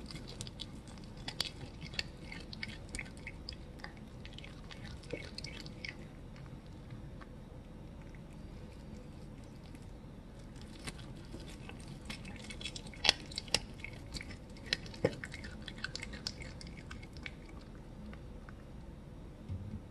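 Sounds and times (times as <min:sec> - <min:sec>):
cat crunching bone: 0:00.0 - 0:18.7.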